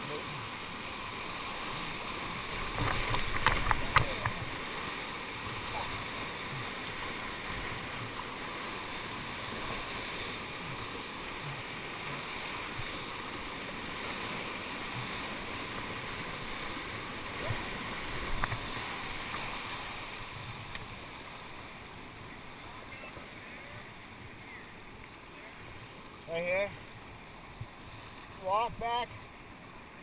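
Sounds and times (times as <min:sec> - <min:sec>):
whitewater roaring: 0:00.0 - 0:30.0.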